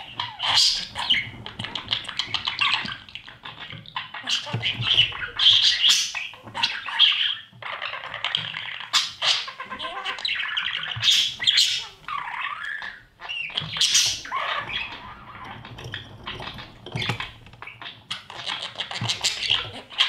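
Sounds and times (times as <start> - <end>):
budgerigars chirping and squawking: 0.0 - 20.0.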